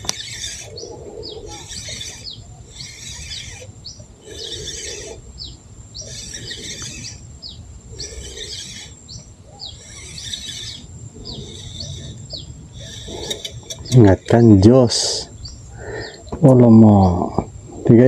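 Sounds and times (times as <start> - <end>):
high rasping bird call: 0.0 - 16.4
high-pitched whine: 0.0 - 18.0.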